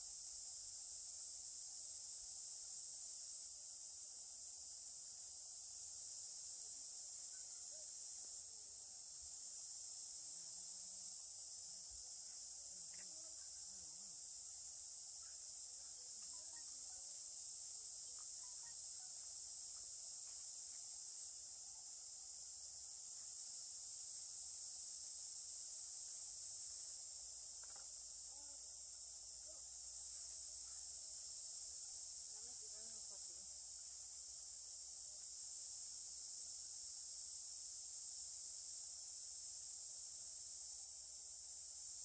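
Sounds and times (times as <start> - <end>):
high-pitched insect chorus: 0.0 - 42.0.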